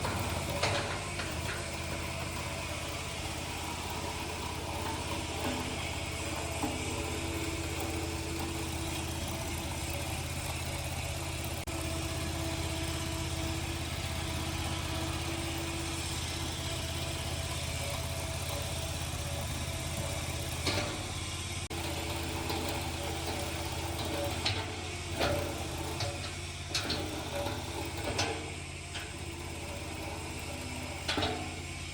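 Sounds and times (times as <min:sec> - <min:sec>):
hydraulic whine: 0:00.0 - 0:31.9
loader engine humming: 0:00.0 - 0:31.9.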